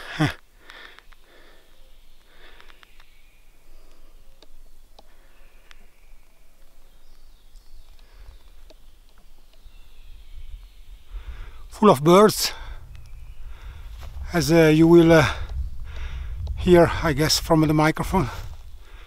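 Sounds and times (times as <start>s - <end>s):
faint birds calling: 0.0s - 19.0s.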